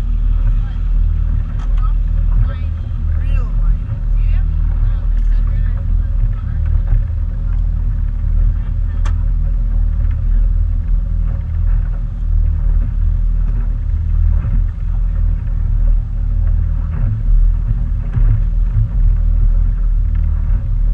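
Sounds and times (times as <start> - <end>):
motorboat engine rumble: 0.0 - 20.9.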